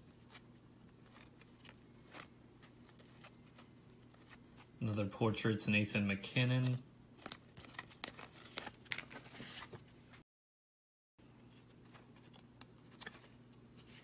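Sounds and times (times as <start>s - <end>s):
trading cards shuffling: 0.0s - 5.1s, 6.6s - 10.2s, 11.4s - 14.0s.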